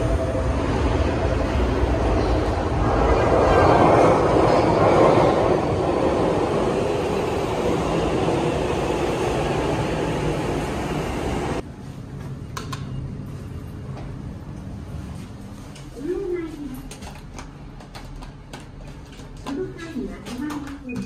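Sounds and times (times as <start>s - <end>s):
train rumbling through station: 0.0s - 21.0s.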